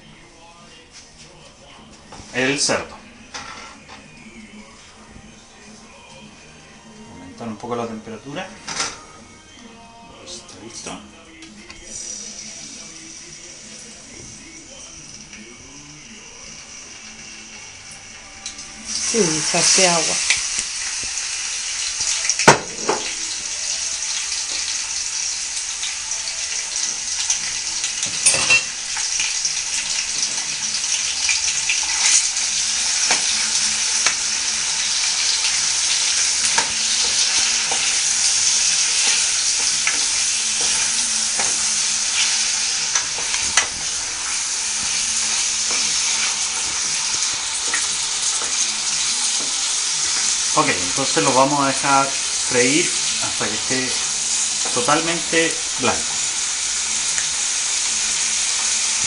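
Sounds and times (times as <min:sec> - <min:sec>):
meat sizzling in oil: 0:11.7 - 0:59.0.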